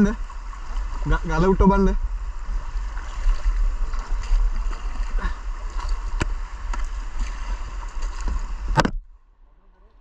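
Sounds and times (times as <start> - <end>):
paddle splashes: 0.0 - 9.1.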